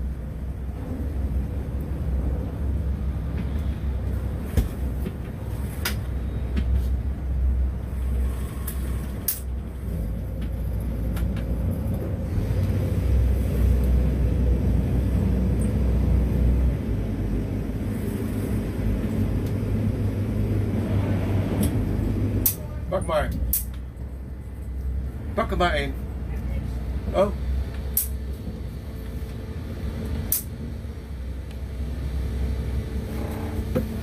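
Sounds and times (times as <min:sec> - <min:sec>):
boat engine low drone: 0:00.0 - 0:34.0.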